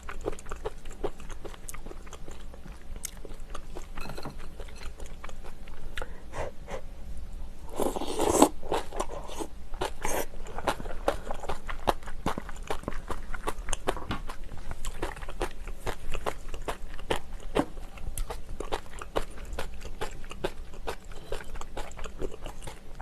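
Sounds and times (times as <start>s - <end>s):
person chewing crunchy food: 0.0s - 6.2s, 7.7s - 23.0s.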